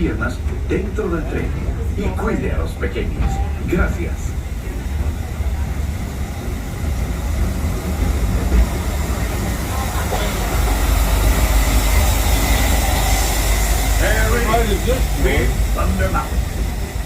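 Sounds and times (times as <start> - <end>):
train cars rumbling on track: 0.0 - 17.0.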